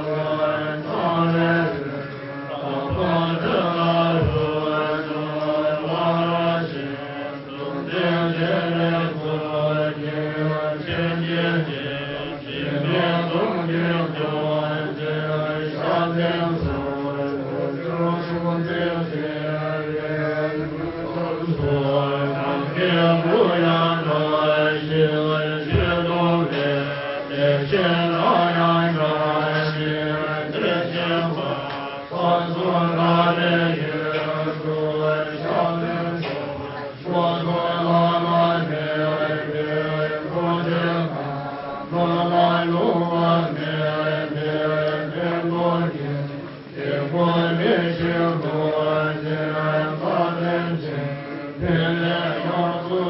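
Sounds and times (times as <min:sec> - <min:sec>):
group chanting in unison: 0:00.0 - 0:53.0.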